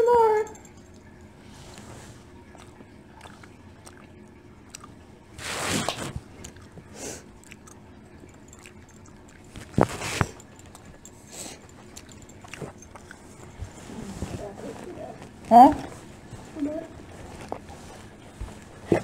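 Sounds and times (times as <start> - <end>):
chewing: 0.5 - 19.0.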